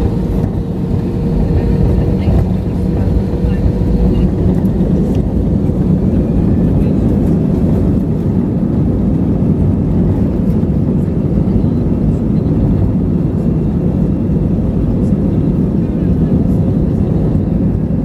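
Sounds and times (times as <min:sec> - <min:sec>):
jet engines rushing in cabin: 0:00.0 - 0:18.0.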